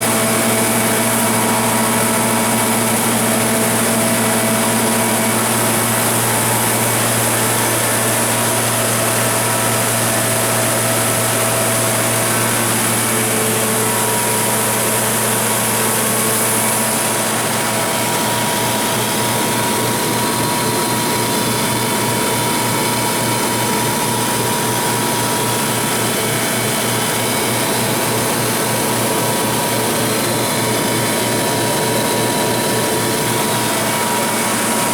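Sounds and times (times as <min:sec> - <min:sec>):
generator running steadily: 0:00.0 - 0:34.9.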